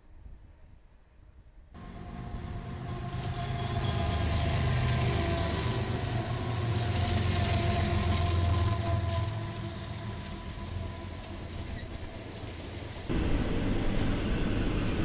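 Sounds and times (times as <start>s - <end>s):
diesel locomotive engine rumble: 1.8s - 15.0s
rail noise: 1.8s - 15.0s.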